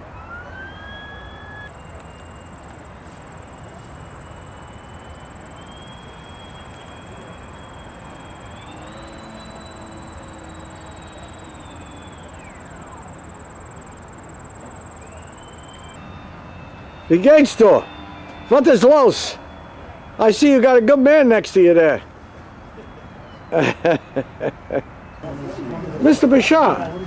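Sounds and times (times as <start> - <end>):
model airplane engines whining: 0.0 - 25.2
steady hiss: 1.7 - 24.5.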